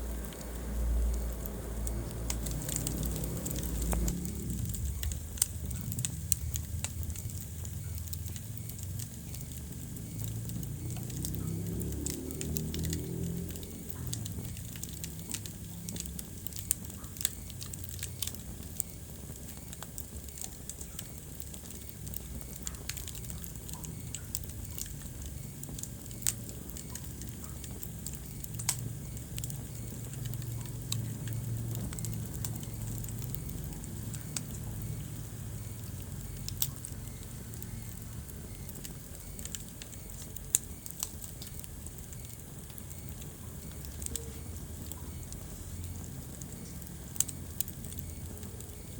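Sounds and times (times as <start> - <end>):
fire crackling and popping: 0.0 - 48.9
fire rumbling: 0.0 - 48.9.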